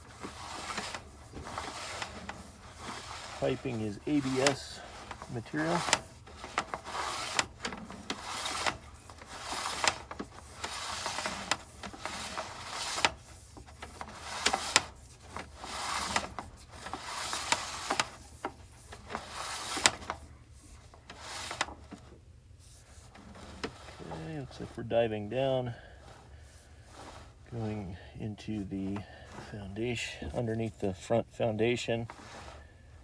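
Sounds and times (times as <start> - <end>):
cable rubbing and scraping: 0.0 - 33.0.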